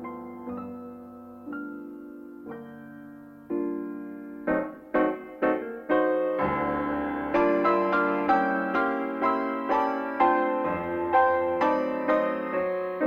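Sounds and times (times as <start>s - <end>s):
jazz piano ballad: 0.0s - 13.0s.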